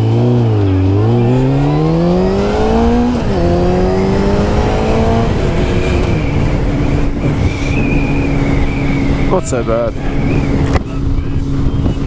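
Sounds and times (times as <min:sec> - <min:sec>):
motorcycle engine accelerating: 0:00.0 - 0:12.0
wind noise: 0:01.0 - 0:12.0.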